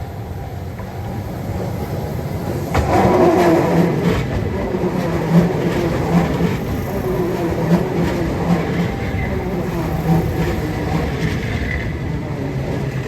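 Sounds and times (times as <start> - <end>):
train passing close by: 0.0 - 13.0.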